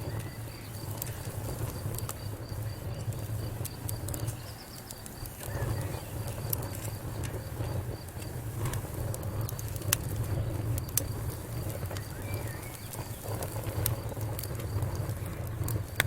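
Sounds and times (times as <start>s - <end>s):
fire crackling: 0.0s - 16.0s
fire pops and snaps: 0.0s - 16.0s.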